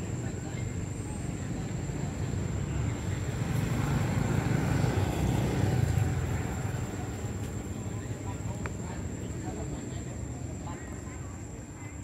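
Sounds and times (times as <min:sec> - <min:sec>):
motor vehicle passing rumble: 0:00.0 - 0:09.8.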